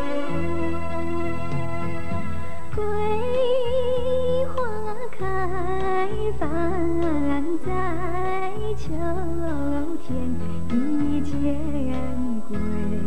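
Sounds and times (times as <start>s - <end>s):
woman singing a ballad: 0.0s - 1.9s, 2.6s - 13.0s
instrumental backing: 0.0s - 13.0s.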